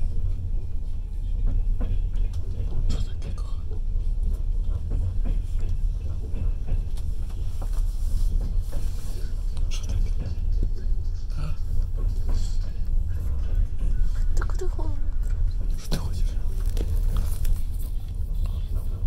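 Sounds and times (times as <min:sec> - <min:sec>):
train rumbling on tracks: 0:00.0 - 0:19.0.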